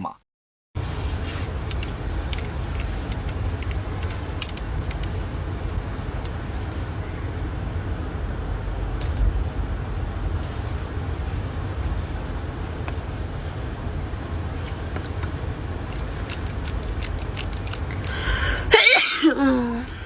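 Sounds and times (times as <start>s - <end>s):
low rumbling background noise: 0.8s - 20.0s.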